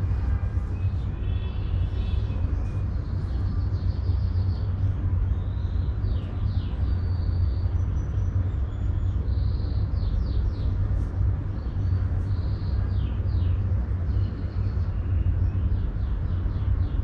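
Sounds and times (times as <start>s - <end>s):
small birds chirping: 0.6s - 17.0s.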